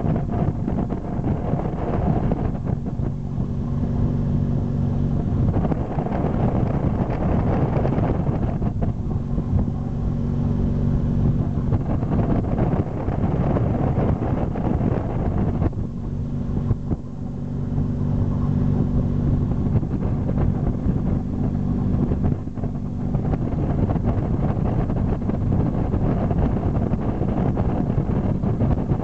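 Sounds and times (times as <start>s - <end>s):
boat engine running: 0.0s - 29.0s
wind buffeting microphone: 0.0s - 29.0s.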